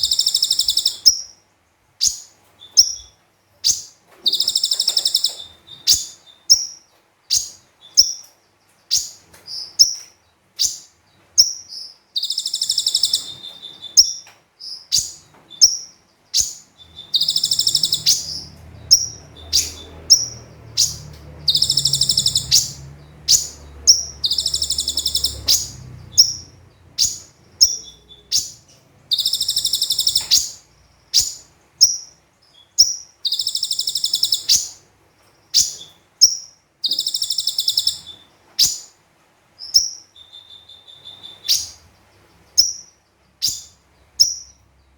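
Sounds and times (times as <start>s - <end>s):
buzzy high bird trills: 0.0s - 1.4s, 2.0s - 8.3s, 8.9s - 34.8s, 35.5s - 38.9s
sunbird chirps: 0.0s - 1.4s, 2.0s - 39.0s, 39.6s - 44.9s.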